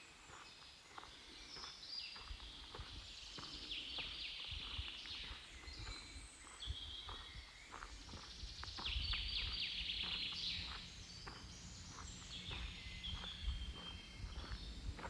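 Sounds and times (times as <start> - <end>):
songbirds chirping and trilling: 0.0 - 15.0
footsteps: 0.3 - 15.0.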